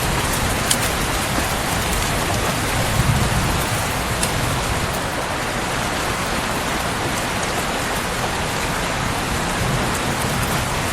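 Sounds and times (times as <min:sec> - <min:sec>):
steady rain hiss: 0:00.0 - 0:10.9.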